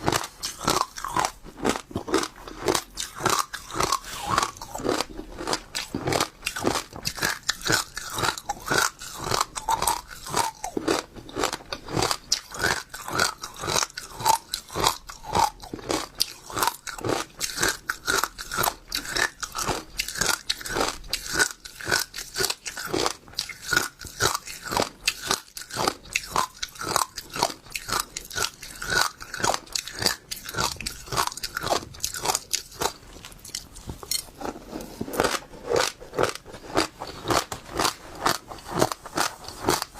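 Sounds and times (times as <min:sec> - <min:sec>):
chewing crunchy seeds: 0:00.0 - 0:39.9.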